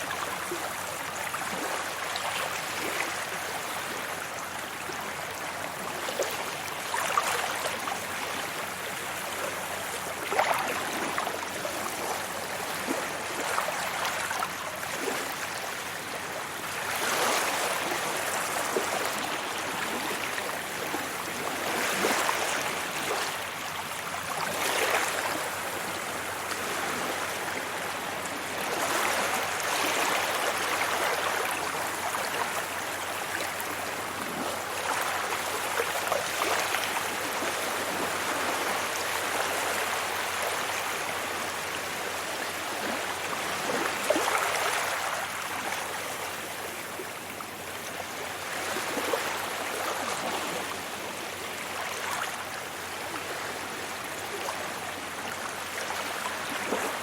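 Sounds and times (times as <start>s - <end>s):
sea waves breaking on beach: 0.0s - 57.0s.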